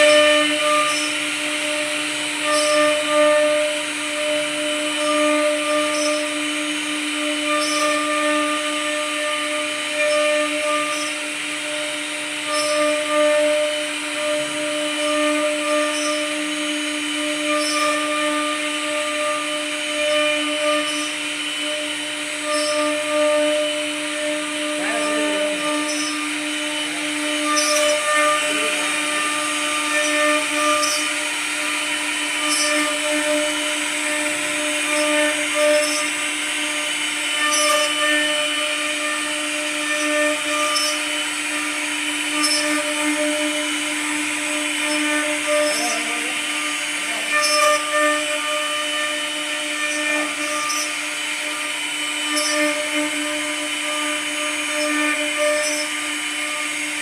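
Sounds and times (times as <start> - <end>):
cnc router spindle whining: 0.0 - 57.0.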